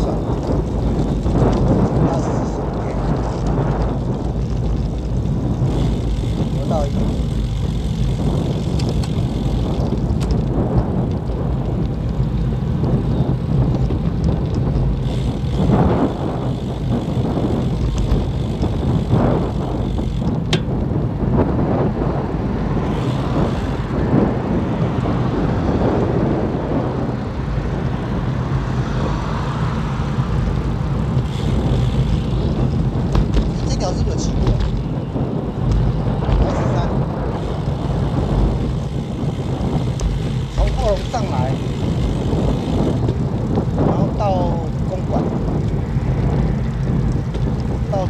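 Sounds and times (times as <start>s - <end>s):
bicycle road noise: 0.0s - 48.0s
wind noise: 0.0s - 48.0s.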